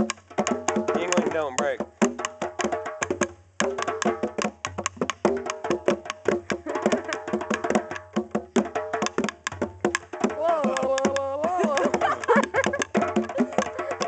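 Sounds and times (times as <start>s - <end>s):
rapid percussive clicks: 0.0s - 14.0s.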